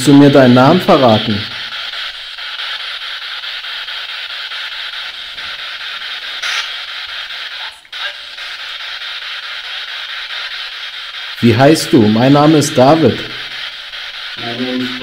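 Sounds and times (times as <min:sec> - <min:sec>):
chopped radio static: 0:00.0 - 0:15.0.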